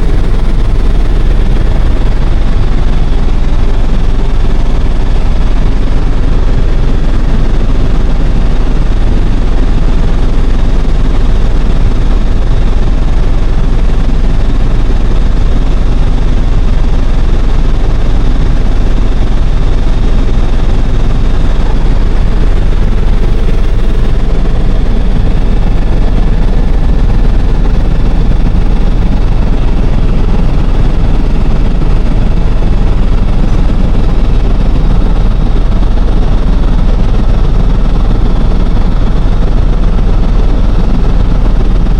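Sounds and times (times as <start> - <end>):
helicopter engine and rotor noise: 0.0 - 41.9.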